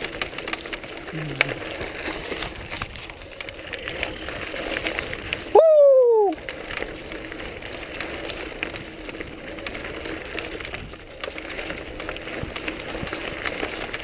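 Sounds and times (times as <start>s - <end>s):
bike clicking and rattling: 0.0s - 14.0s
bike tyres rolling over leaves: 0.0s - 14.0s.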